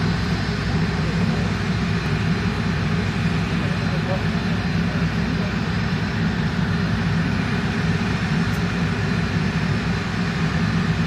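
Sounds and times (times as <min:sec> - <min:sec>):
heavy engines rumbling: 0:00.0 - 0:11.0.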